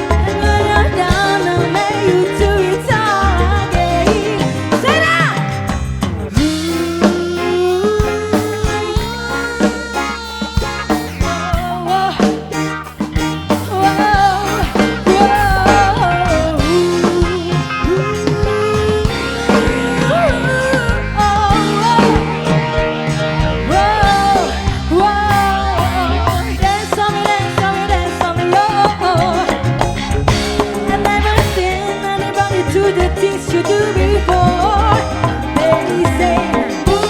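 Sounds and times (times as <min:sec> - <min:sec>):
drum beat: 0:00.0 - 0:37.0
live band playing: 0:00.0 - 0:37.0.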